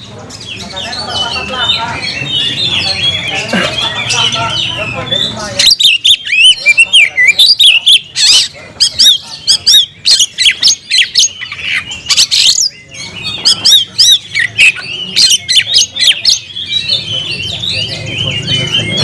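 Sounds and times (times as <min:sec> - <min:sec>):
magpie-robin singing: 0:00.0 - 0:19.0.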